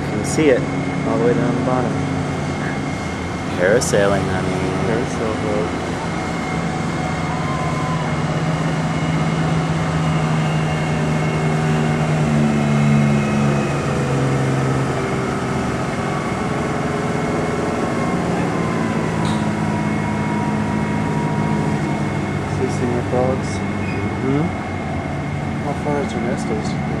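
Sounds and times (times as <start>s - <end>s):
low machinery hum: 0.0s - 27.0s
thin high whine: 0.0s - 27.0s.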